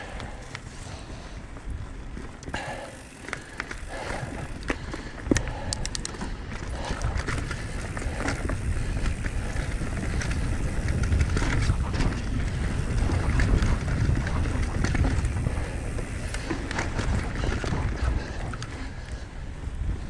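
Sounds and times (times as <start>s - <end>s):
bike clicks and rattles: 0.0s - 20.0s
bike tyre noise on dirt: 0.0s - 20.0s
wind buffeting microphone: 0.0s - 20.0s.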